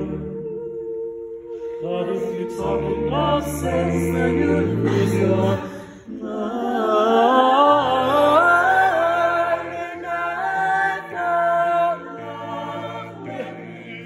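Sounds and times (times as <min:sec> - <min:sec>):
a cappella group singing: 0:00.0 - 0:14.0
lead singing line: 0:00.0 - 0:14.0.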